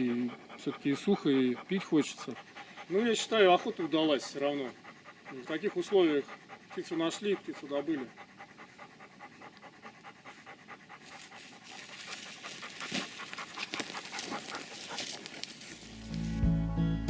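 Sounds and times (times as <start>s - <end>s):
dog panting fast: 0.0s - 16.0s.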